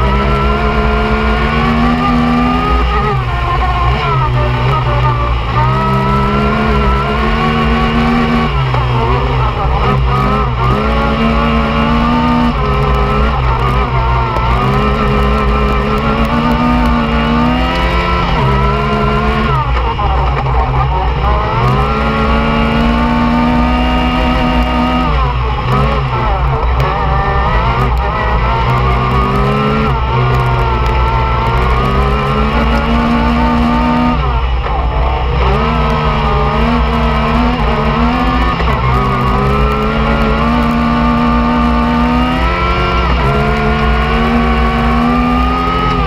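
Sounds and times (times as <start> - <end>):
engine revving hard: 0.0 - 46.0.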